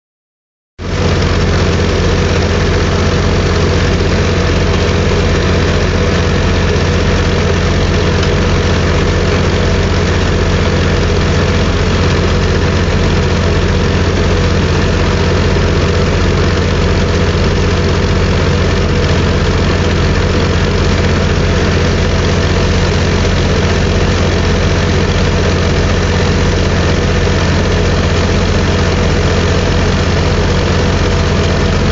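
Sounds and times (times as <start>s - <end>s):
drill rig engine droning: 0.8s - 31.9s.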